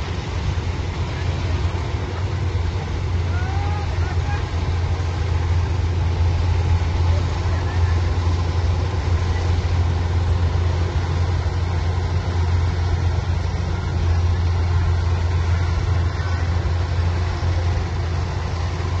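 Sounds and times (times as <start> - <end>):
machine engine humming: 0.0 - 19.0.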